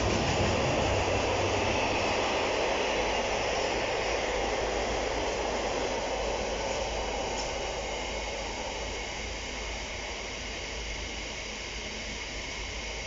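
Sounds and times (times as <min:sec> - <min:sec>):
train wheels rumbling on rail: 0:00.0 - 0:10.5.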